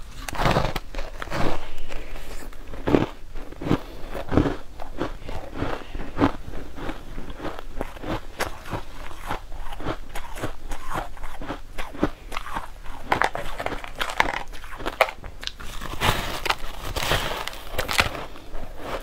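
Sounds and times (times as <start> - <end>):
crunching ice: 0.1 - 19.0.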